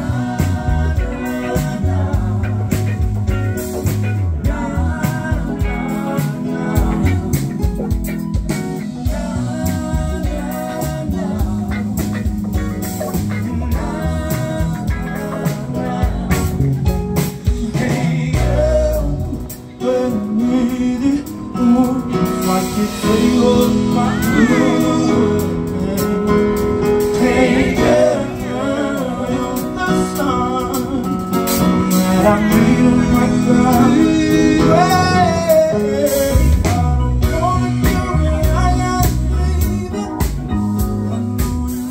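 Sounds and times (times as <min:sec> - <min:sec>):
person singing: 0:00.0 - 0:03.2, 0:04.4 - 0:08.0, 0:08.6 - 0:41.9
live band playing: 0:00.0 - 0:41.9.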